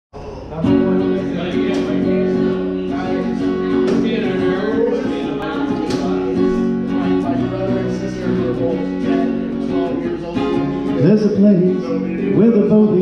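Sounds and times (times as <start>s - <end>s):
acoustic guitar strumming chords: 0.2s - 13.0s.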